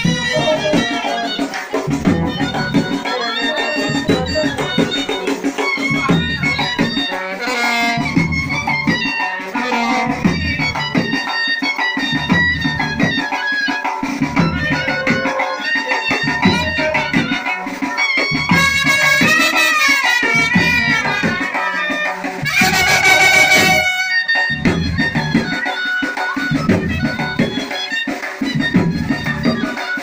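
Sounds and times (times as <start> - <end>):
music with drum beat: 0.0 - 30.0.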